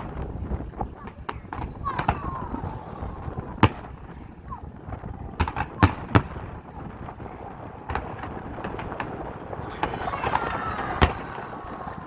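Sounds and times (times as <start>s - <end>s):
fireworks popping and crackling: 0.0s - 12.0s
loud firework bang: 0.0s - 12.0s
steady background noise: 0.0s - 12.0s.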